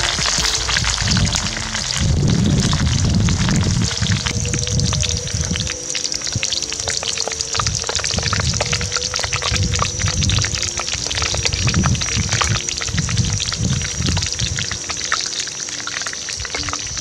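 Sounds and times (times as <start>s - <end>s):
oil sizzling and popping: 0.0s - 17.0s.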